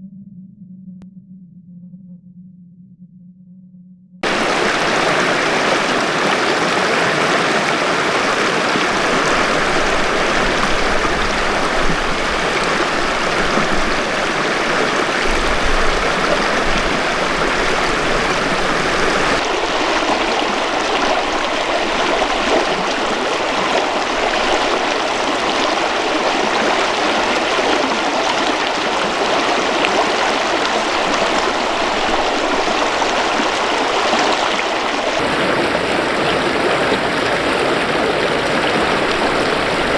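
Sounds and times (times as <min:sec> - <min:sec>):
river water rushing: 0:04.2 - 0:39.9.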